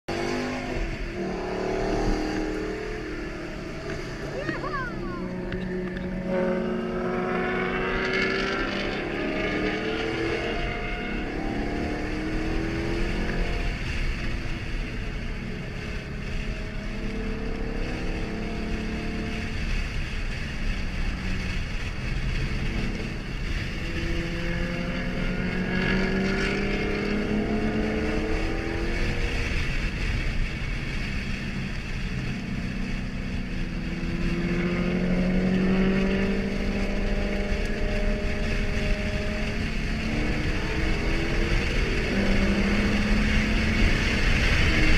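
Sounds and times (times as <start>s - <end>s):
car engine shifting through gears: 0.0s - 44.9s
road and wind noise: 0.0s - 44.9s.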